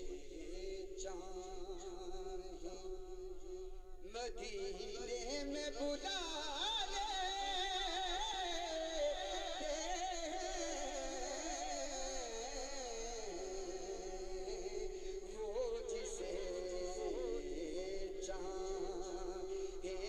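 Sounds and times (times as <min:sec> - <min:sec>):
man singing devotional song: 0:00.0 - 0:20.0.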